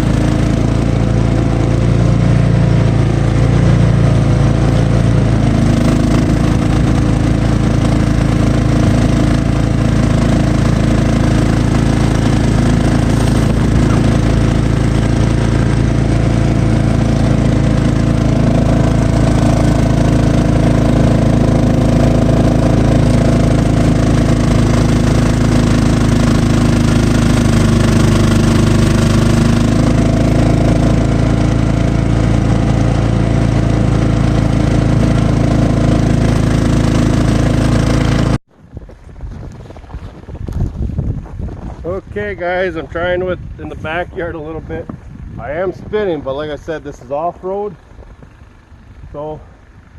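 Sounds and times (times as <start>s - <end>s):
lawn tractor engine running: 0.0s - 40.9s, 43.6s - 49.9s.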